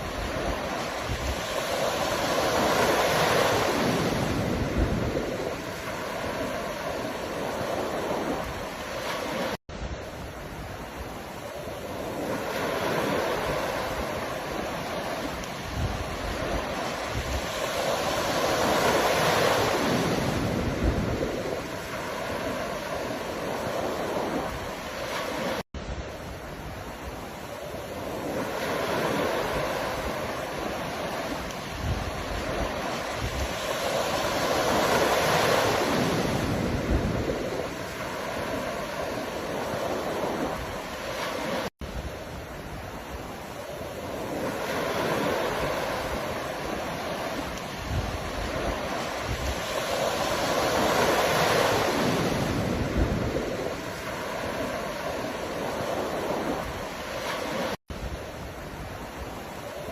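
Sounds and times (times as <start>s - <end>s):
ocean surf washing in: 0.0s - 59.9s
wind buffeting the microphone: 0.0s - 59.9s.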